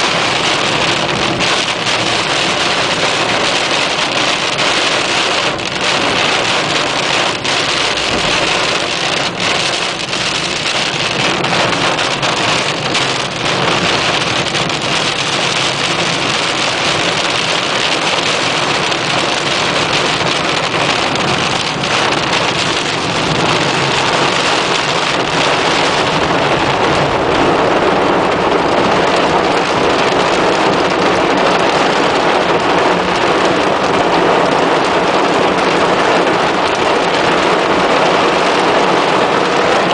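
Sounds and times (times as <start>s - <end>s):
heavy rain on car: 0.0s - 39.9s.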